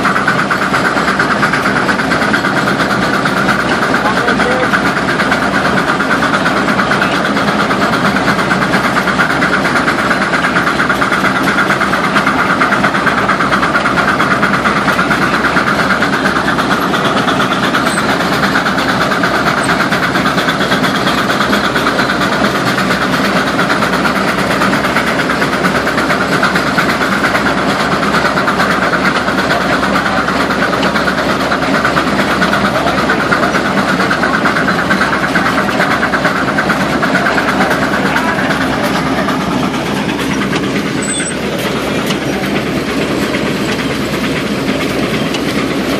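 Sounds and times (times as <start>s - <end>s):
plow working through soil: 0.0s - 45.9s
steam traction engine running: 0.0s - 45.9s.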